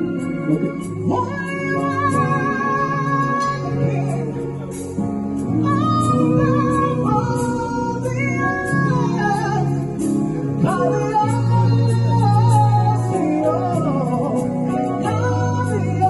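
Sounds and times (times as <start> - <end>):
bass line: 0.0 - 16.0
keyboard or organ chords: 0.0 - 16.0
person singing: 0.0 - 16.0.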